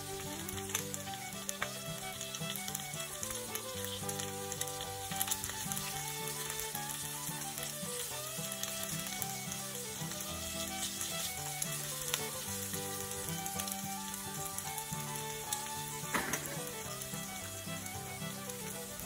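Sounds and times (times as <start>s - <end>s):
background music: 0.0s - 19.0s
food sizzling in oil: 0.0s - 19.0s.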